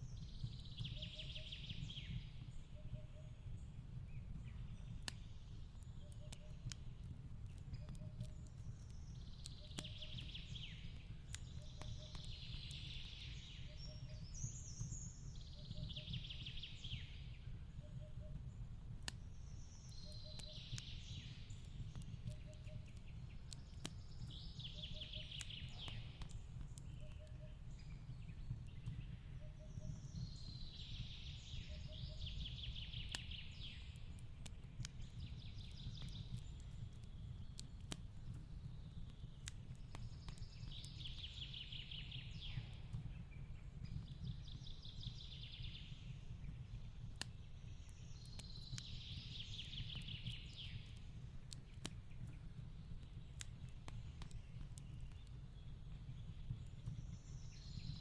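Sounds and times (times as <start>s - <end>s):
songbirds singing: 0.0s - 58.0s
wood fire crackling: 0.0s - 58.0s.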